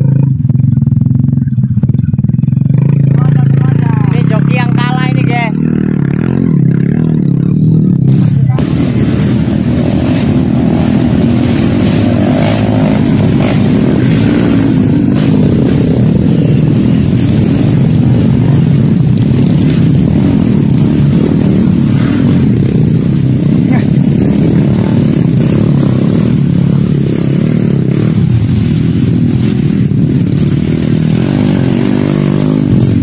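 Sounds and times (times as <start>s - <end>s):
small motorcycle engine revving: 0.0s - 33.0s.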